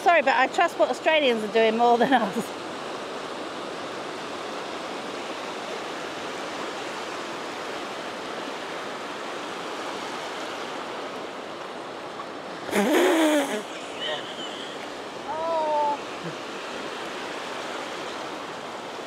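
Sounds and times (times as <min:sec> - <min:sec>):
small waves washing on beach: 0:00.0 - 0:19.0.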